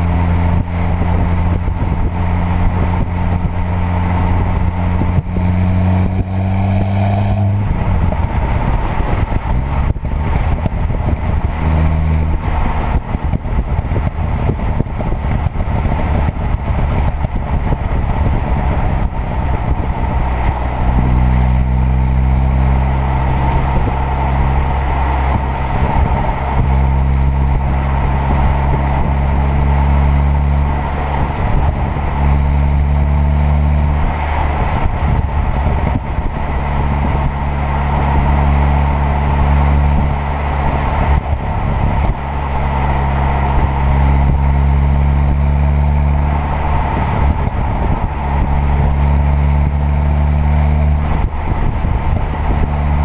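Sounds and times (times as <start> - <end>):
car engine driving: 0.0 - 53.0
rough road noise: 0.0 - 53.0.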